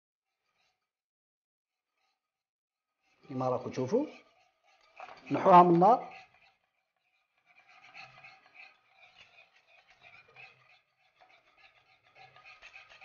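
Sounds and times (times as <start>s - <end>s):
wire whisk scraping a saucepan: 0.4s - 0.8s, 3.0s - 13.0s.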